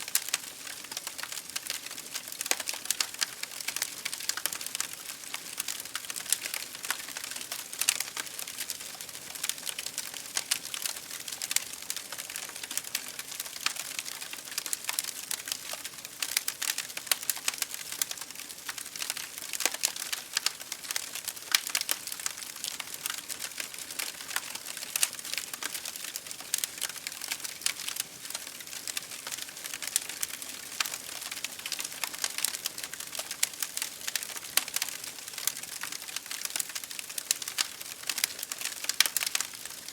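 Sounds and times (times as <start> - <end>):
rain pattering on window: 0.0 - 39.9
wood fire crackling: 0.0 - 39.9.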